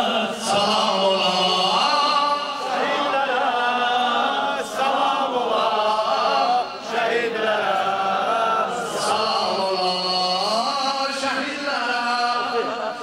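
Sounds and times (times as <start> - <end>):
men chanting in unison: 0.0 - 13.0
singer on a microphone: 0.0 - 13.0.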